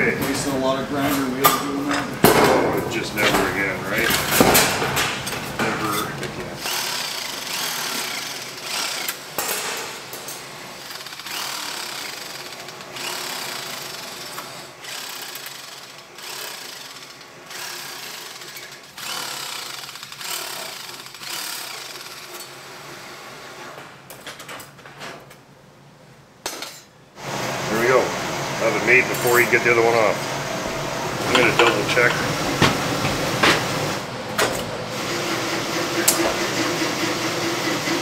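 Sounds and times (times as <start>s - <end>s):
power shear cutting sheet metal: 0.3s - 23.8s, 27.2s - 38.0s.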